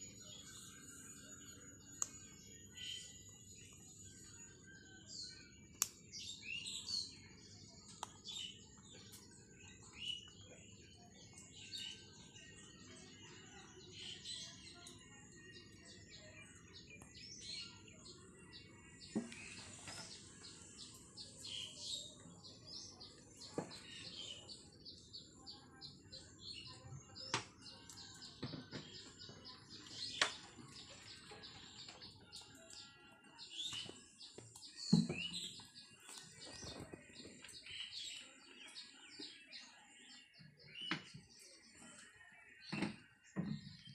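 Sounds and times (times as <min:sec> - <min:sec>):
birds chirping and twittering: 0:00.0 - 0:43.9.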